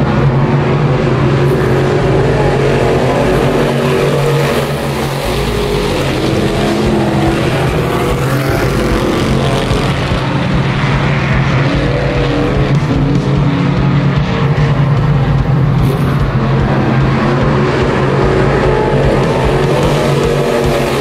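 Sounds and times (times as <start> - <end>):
race car engines roaring: 0.0 - 21.0.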